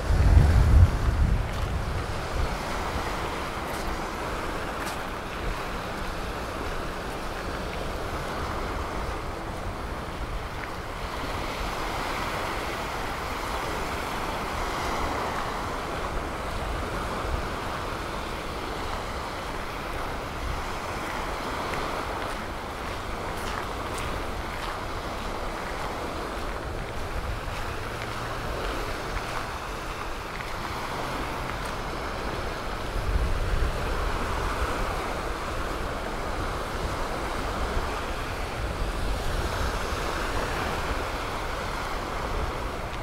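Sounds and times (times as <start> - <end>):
surf: 0.0 - 43.0
wind on microphone: 0.0 - 43.0.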